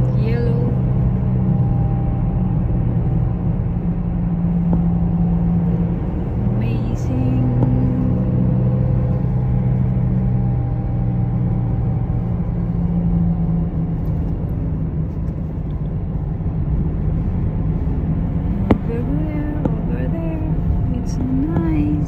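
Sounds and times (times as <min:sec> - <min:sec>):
car engine hum: 0:00.0 - 0:22.0
tyre and road rumble: 0:00.0 - 0:22.0.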